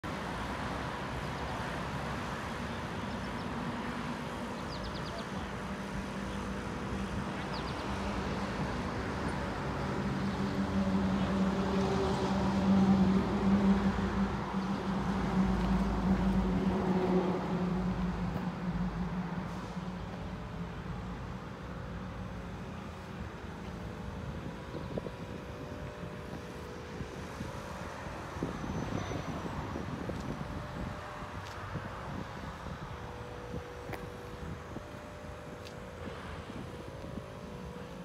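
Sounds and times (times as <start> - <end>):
engine humming: 0.0 - 38.0
outdoor background noise: 0.0 - 38.0.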